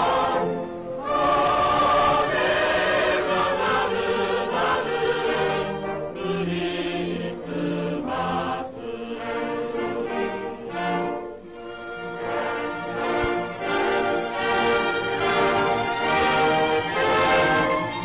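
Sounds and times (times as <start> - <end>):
choir singing sustained chords: 0.0 - 18.0
orchestral accompaniment: 0.0 - 18.0.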